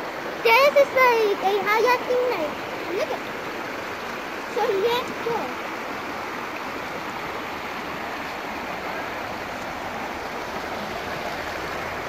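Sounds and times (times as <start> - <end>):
water running over rocks: 0.0 - 12.0.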